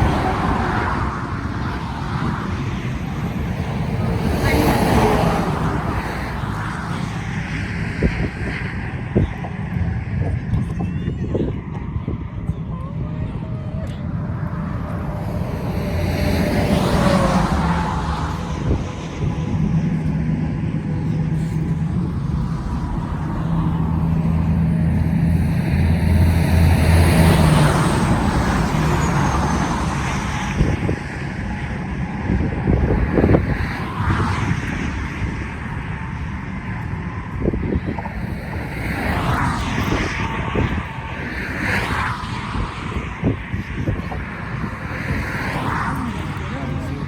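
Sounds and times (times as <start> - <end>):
vehicles passing: 0.0 - 47.0.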